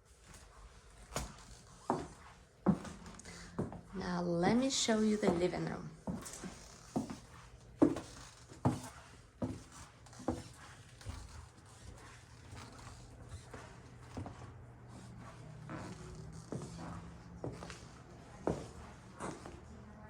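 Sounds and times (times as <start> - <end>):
footsteps: 0.2 - 20.0.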